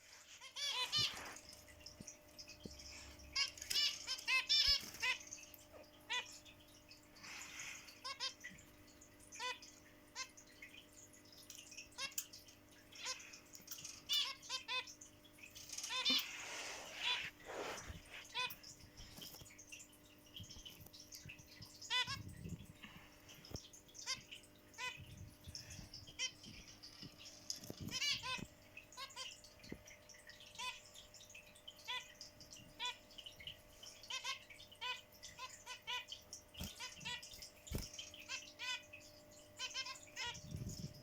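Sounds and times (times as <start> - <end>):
finches and budgies chirping: 0.0 - 8.6, 9.3 - 41.0.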